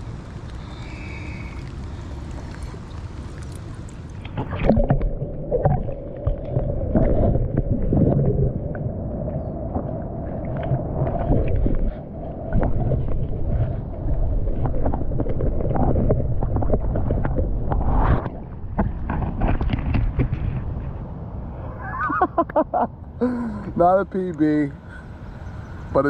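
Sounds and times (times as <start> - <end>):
muffled underwater sloshing: 0.0 - 21.1.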